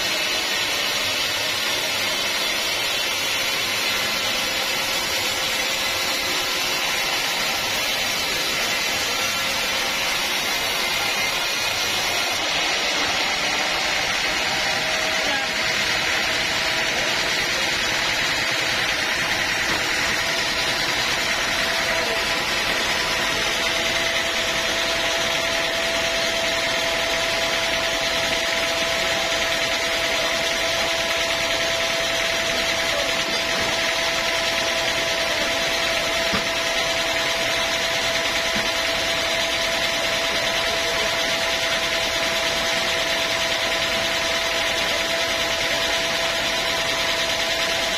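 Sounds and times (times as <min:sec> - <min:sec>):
saw whining: 0:00.0 - 0:47.9.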